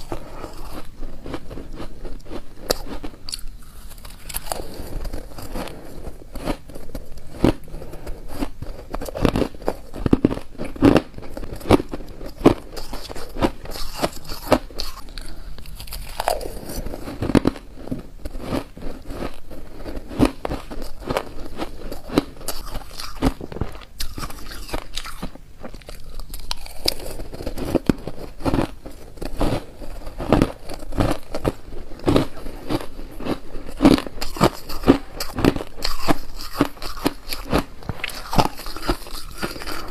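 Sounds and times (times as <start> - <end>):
crunching shaved ice: 0.0 - 17.7, 18.3 - 39.9.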